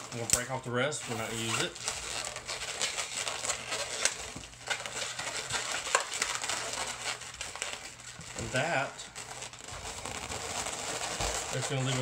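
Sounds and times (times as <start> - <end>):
balloons rubbing and twisting: 0.0 - 12.0.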